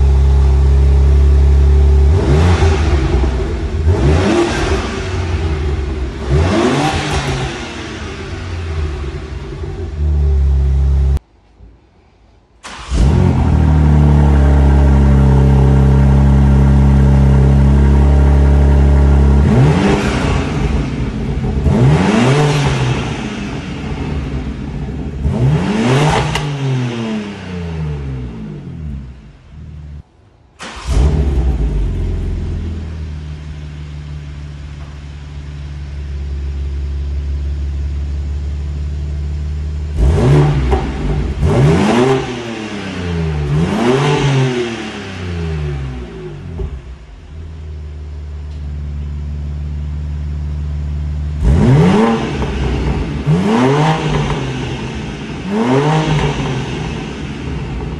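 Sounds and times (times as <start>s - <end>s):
car exhaust idling and revving: 0.0s - 11.2s, 12.9s - 30.1s, 30.9s - 57.9s.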